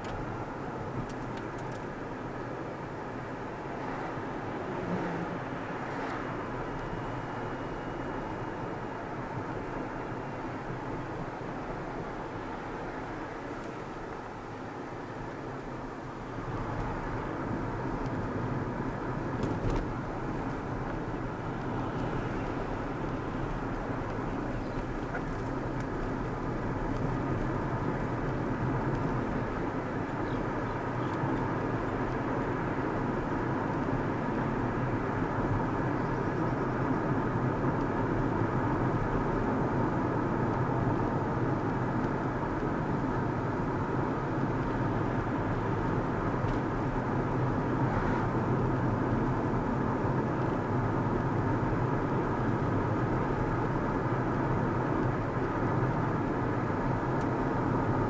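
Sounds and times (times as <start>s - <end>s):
car tyre and engine noise: 0.0s - 58.0s.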